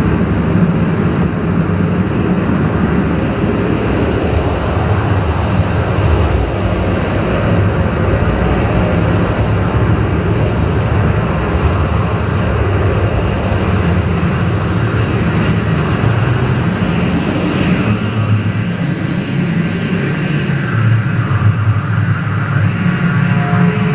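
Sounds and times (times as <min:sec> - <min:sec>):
synthesizer ambient drone: 0:00.0 - 0:23.9.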